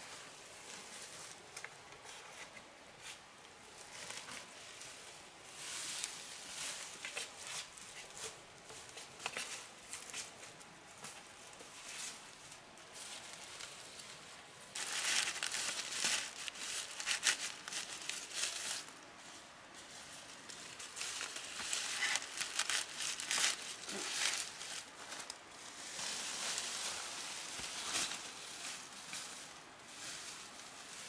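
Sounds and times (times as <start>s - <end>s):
dry material rustling and crinkling: 0.0s - 31.0s.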